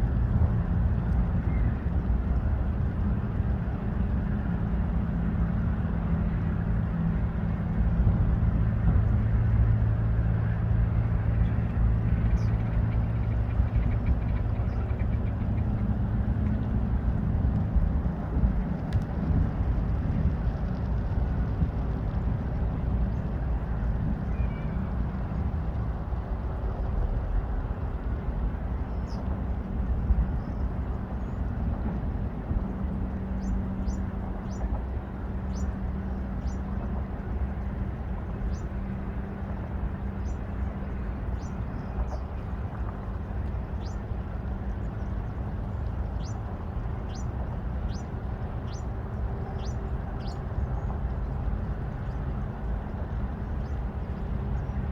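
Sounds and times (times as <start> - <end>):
low outdoor rumble: 0.0 - 54.9.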